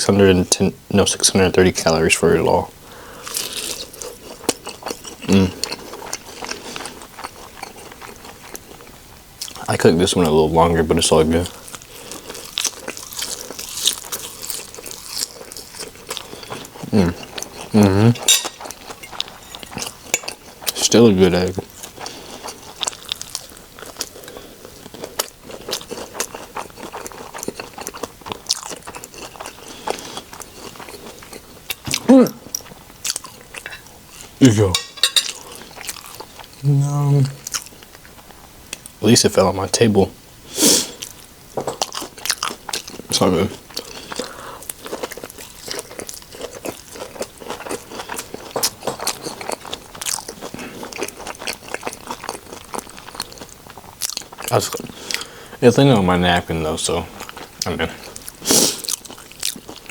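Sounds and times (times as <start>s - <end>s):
person chewing crunchy food: 3.1s - 10.3s, 11.4s - 36.6s, 37.2s - 38.9s, 40.6s - 55.4s, 57.1s - 59.9s.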